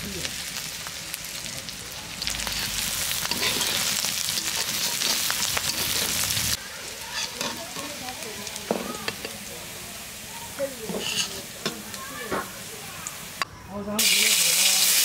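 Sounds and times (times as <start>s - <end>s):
food frying in hot oil: 0.0s - 13.4s, 14.0s - 15.0s.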